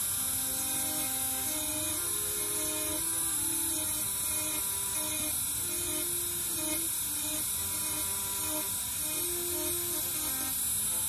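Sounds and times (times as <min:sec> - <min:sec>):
carving tool grinding wood: 0:00.0 - 0:11.0.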